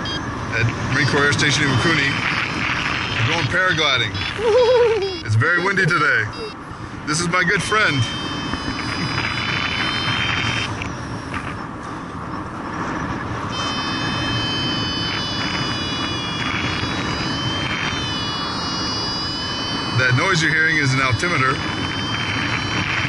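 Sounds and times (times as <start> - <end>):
high electronic tone: 0.0 - 23.0
wind rush on microphone: 0.3 - 5.0, 6.6 - 23.0.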